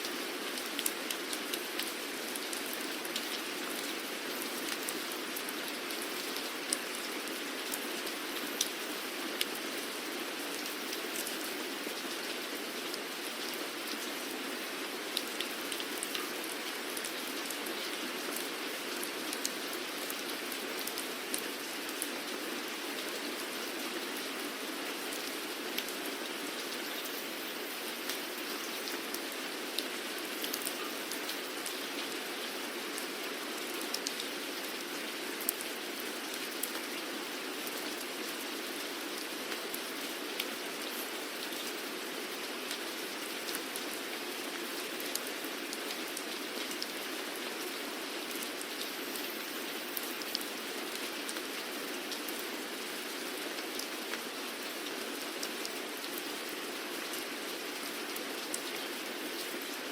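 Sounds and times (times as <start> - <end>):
raindrops ticking on a surface: 0.0 - 59.8
steady rain hiss: 0.0 - 59.9.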